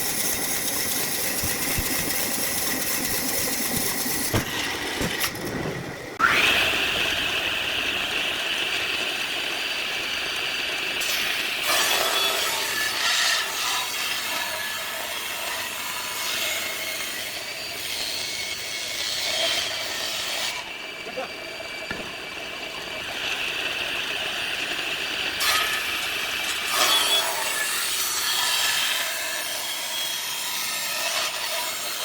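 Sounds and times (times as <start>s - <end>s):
power tool cutting wood: 0.0s - 32.0s.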